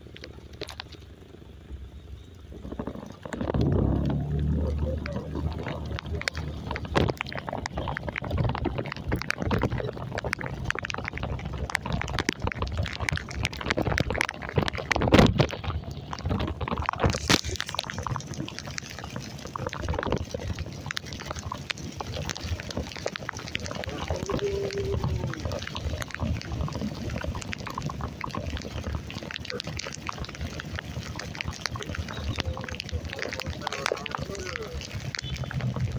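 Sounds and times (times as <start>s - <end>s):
heavy rain: 0.0s - 35.9s
low rumble: 0.0s - 35.9s.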